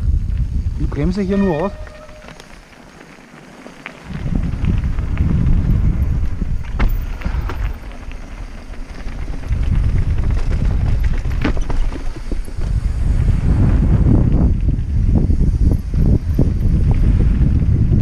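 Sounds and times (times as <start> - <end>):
bike rattling over rough ground: 0.0 - 18.0
wind buffeting microphone: 0.0 - 18.0.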